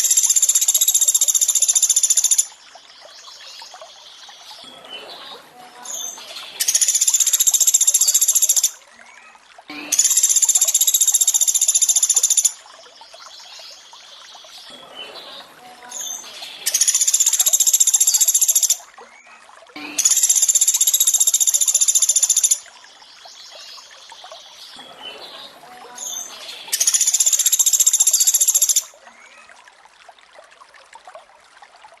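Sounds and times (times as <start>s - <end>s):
running water: 0.0s - 32.0s.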